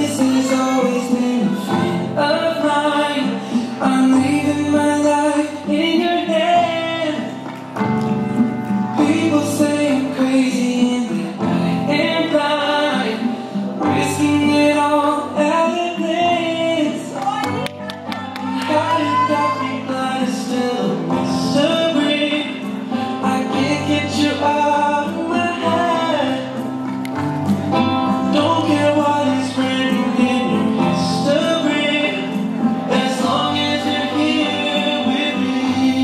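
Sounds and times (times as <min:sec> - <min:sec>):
slow rumba music with singer: 0:00.0 - 0:36.0.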